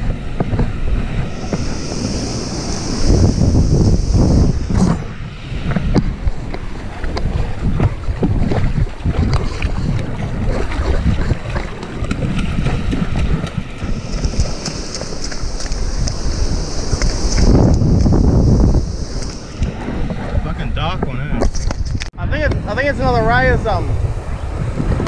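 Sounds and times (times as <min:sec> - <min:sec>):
waves washing on sandy shore: 0:00.0 - 0:21.2
wind buffeting microphone: 0:00.0 - 0:25.0.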